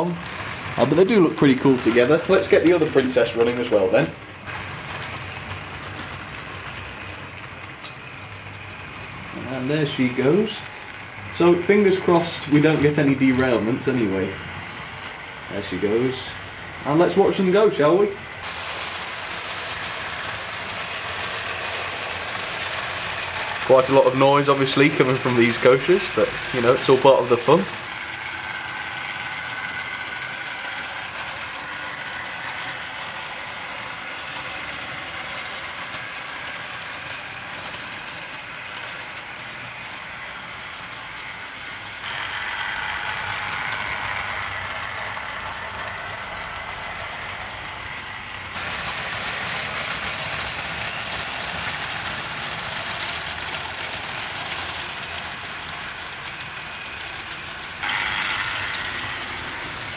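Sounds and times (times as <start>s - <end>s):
model train motors whirring: 0.0s - 59.9s.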